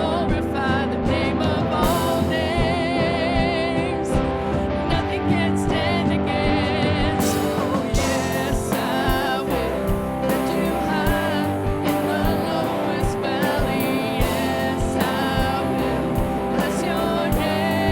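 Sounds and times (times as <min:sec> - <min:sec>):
guitar: 0:00.0 - 0:17.9
person singing: 0:00.0 - 0:17.9
steady drum beat: 0:00.0 - 0:17.9
worship band playing: 0:00.0 - 0:17.9.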